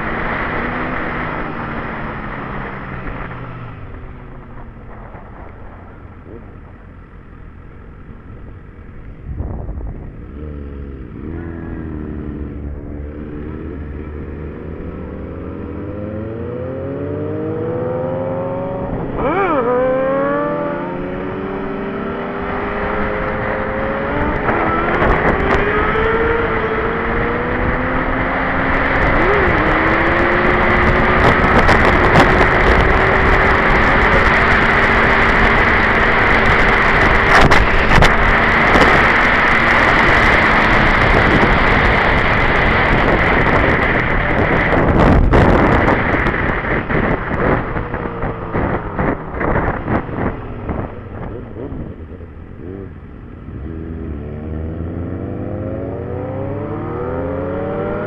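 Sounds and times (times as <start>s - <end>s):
motorcycle engine accelerating: 0.0s - 58.0s
wind noise on microphone: 0.0s - 58.0s.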